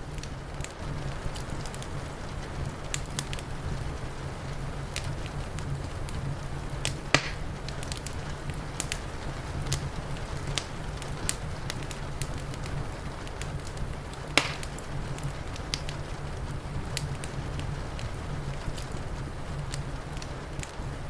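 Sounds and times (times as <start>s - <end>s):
low rumble and hiss: 0.0s - 21.0s
wood fire crackling and popping: 0.0s - 21.0s.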